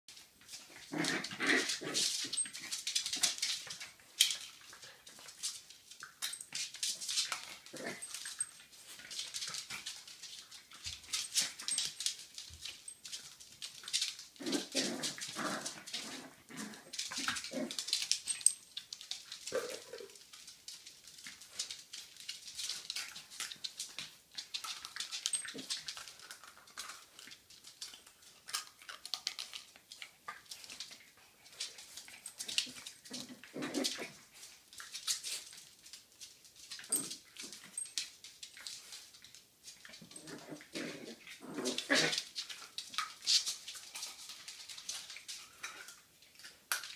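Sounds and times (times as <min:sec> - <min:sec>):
dog claws scrabbling on tiles: 0:00.1 - 0:46.9.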